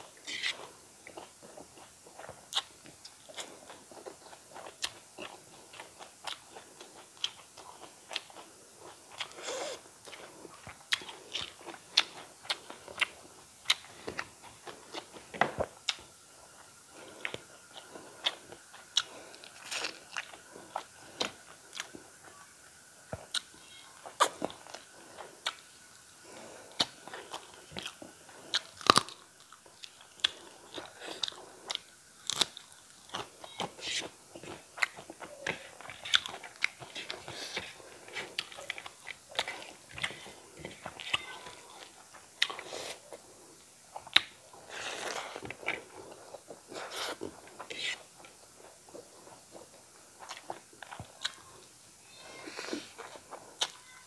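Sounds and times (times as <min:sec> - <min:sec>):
chewing and crunching: 0:00.0 - 0:22.4, 0:23.0 - 0:51.8.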